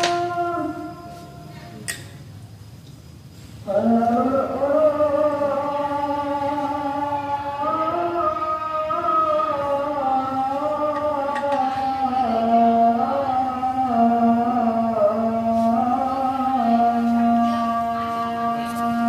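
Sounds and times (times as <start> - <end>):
slow chant-like singing: 0.0 - 2.4, 3.3 - 19.0.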